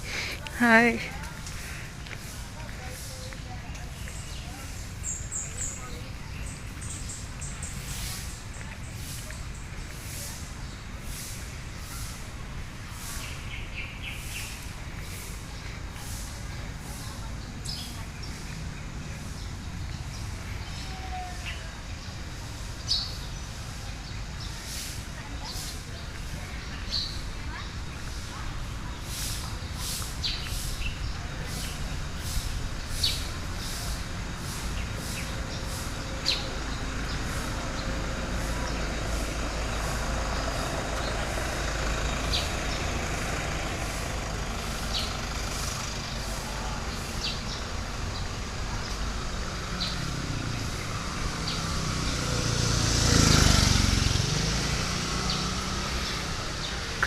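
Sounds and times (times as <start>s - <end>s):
low outdoor rumble: 0.0s - 57.0s
road vehicle passing with hiss: 0.0s - 57.0s.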